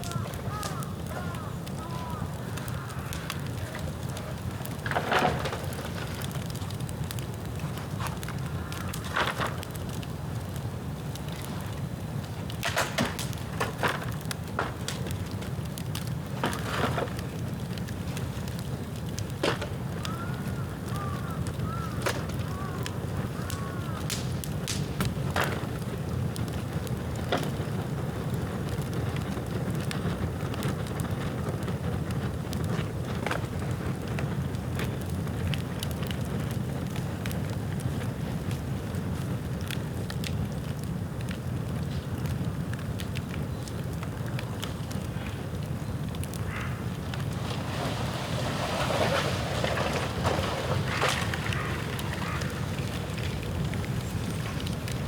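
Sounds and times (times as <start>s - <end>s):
bamboo fire crackling and popping: 0.0s - 55.0s
low fire rumble: 0.0s - 55.0s.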